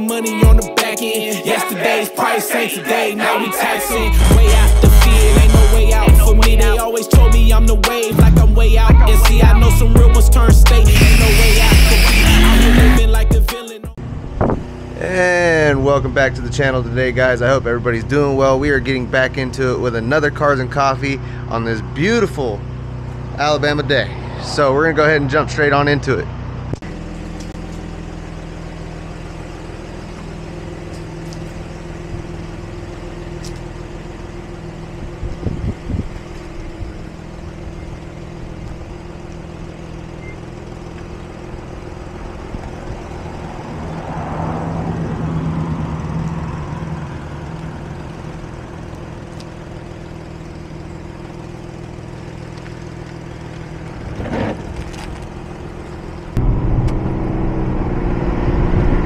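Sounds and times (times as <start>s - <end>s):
car driving: 1.7s - 59.0s
car engine idling: 2.7s - 58.2s.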